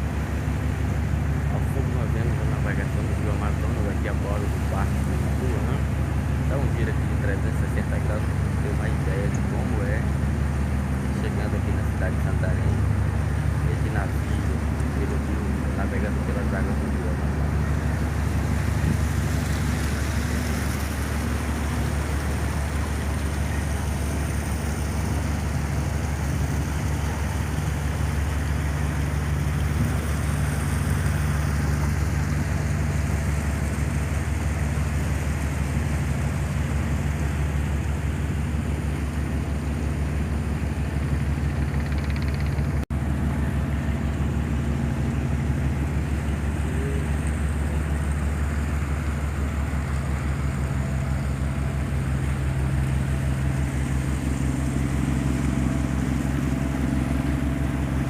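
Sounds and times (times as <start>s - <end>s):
motor boat engine drone: 0.0s - 58.0s
wind and water rushing past hull: 0.0s - 58.0s.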